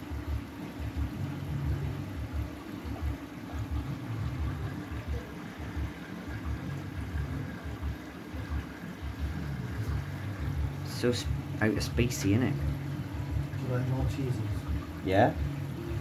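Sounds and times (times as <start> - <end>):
water rushing into washing machine: 2.4 - 16.0.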